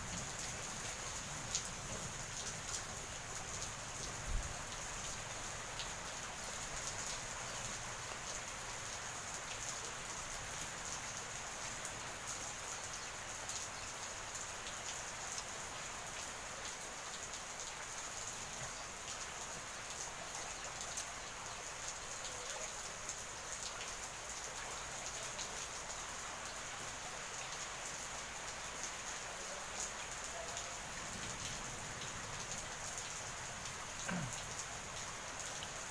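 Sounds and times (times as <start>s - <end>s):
raindrops pattering on a surface: 0.0s - 35.9s.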